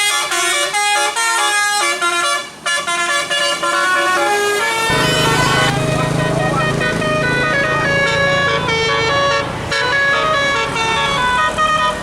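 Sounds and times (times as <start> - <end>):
musical bus air horn: 0.0 - 12.0.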